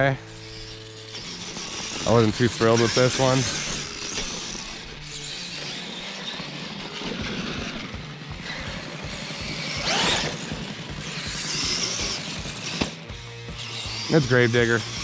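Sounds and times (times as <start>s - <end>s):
toy truck motor whine: 0.0s - 15.0s
toy truck revving hard: 0.0s - 15.0s.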